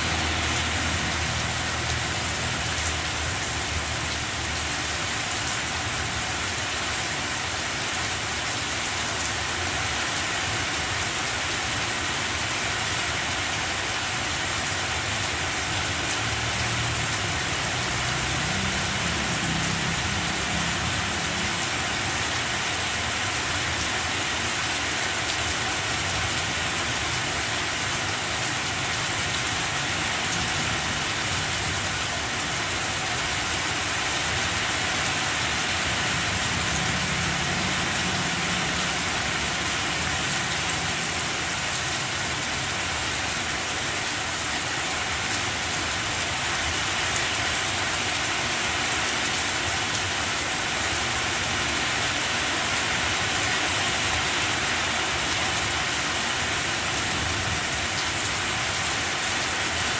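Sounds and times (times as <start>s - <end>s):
rain falling on plants: 0.0s - 59.9s.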